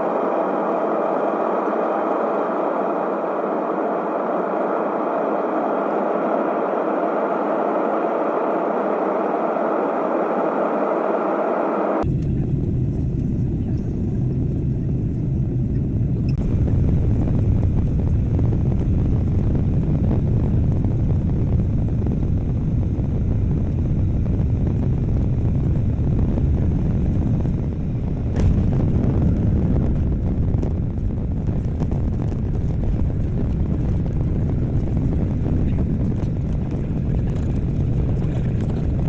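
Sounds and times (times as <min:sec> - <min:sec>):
airliner low rumble: 0:00.0 - 0:39.0.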